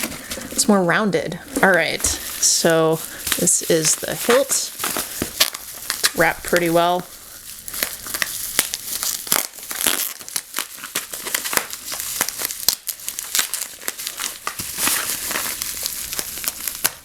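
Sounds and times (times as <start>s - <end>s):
packing wrap crinkling: 0.0s - 17.0s.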